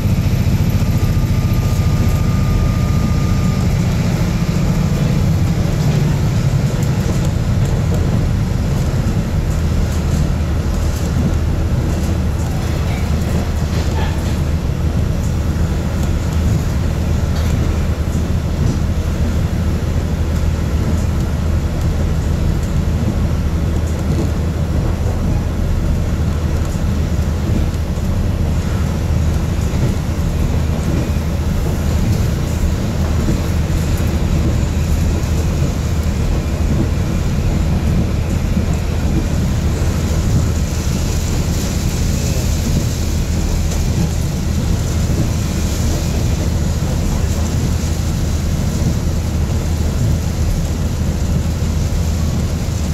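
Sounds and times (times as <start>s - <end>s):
diesel railcar cabin drone: 0.0s - 52.9s.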